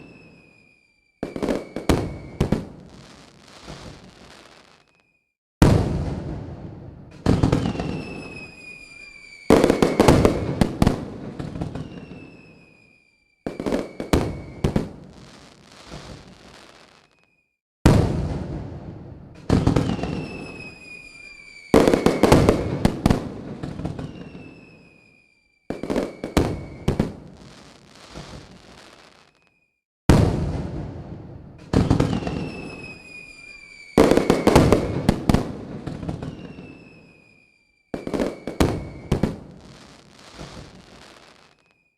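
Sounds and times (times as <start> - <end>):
fireworks crackling: 0.0 - 5.1, 5.7 - 29.6, 31.6 - 41.8
firework whistle: 0.0 - 5.3, 7.2 - 17.6, 19.4 - 29.8, 31.6 - 41.9
fireworks bursting: 0.0 - 41.9.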